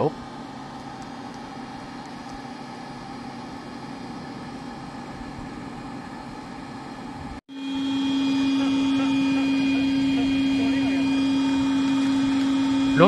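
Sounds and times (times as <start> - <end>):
air blower droning hum: 0.0 - 13.0.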